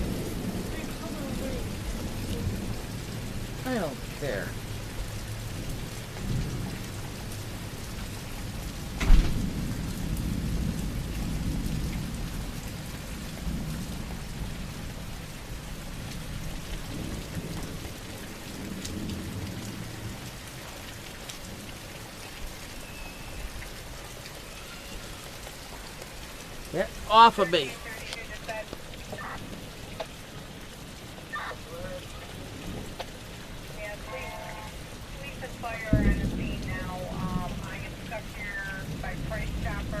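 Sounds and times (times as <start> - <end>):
thunder rumbling: 0.0 - 20.9, 26.6 - 40.0
heavy rain: 0.0 - 40.0.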